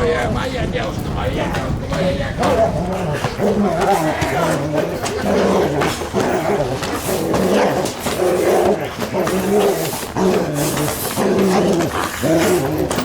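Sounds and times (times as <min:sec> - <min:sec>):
dog drawn-out calls: 0:01.4 - 0:13.0.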